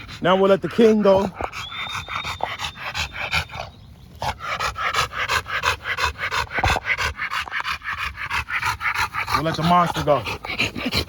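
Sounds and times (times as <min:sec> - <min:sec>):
dog panting rapidly: 0:00.0 - 0:11.0.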